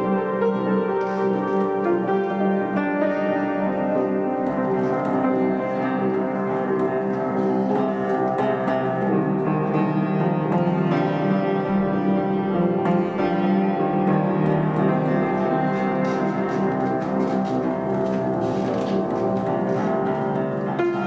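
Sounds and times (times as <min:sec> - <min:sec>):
upright piano playing: 0:00.0 - 0:21.0.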